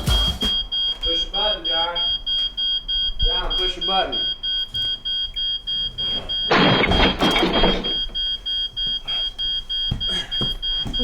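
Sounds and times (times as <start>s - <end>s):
electronic alarm beeping: 0.0s - 11.0s.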